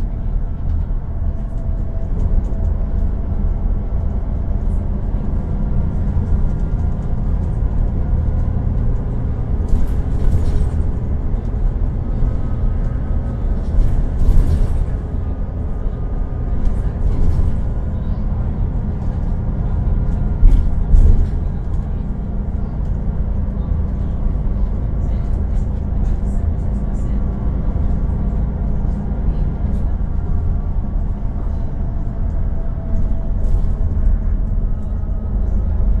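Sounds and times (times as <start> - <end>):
bus engine rumbling: 0.0 - 36.0.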